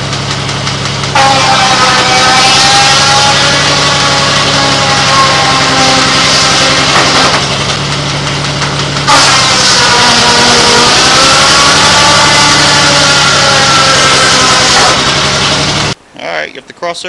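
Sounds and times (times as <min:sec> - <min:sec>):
sawmill machinery running: 0:00.0 - 0:16.0.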